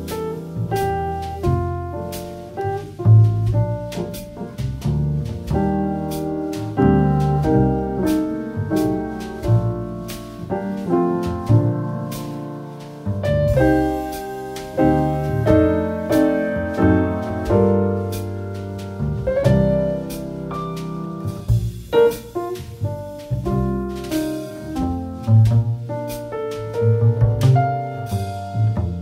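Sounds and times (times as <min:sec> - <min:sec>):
piano background music: 0:00.0 - 0:29.0.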